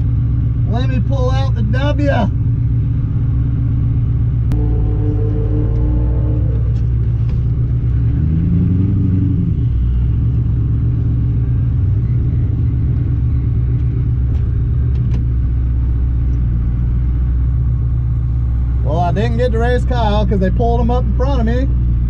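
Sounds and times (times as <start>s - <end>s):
car engine idling: 0.0s - 8.6s, 9.5s - 22.0s.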